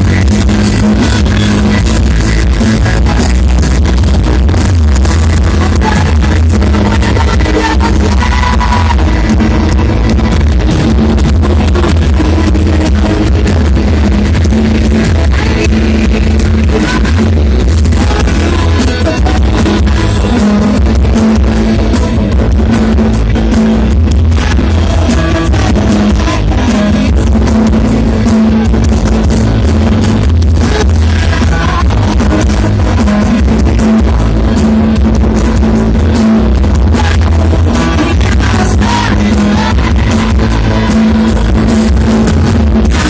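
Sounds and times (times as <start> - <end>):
loud music with bass and guitar: 0.0 - 43.0.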